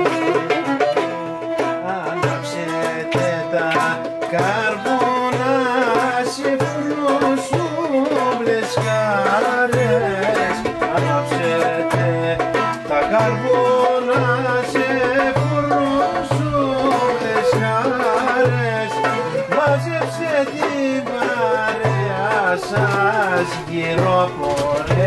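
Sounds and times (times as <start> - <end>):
hand percussion: 0.0 - 25.0
lute: 0.0 - 25.0
violin melody: 0.0 - 25.0.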